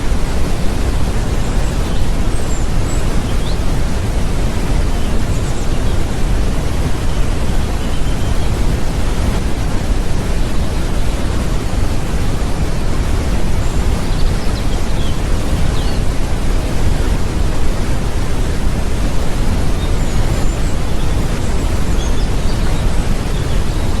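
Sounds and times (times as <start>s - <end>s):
rush of falling water: 0.0s - 24.0s.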